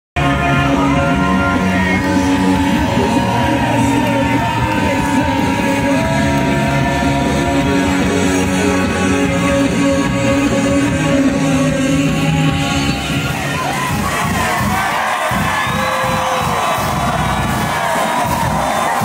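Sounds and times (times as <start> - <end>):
rock music with singing: 0.2 - 19.0.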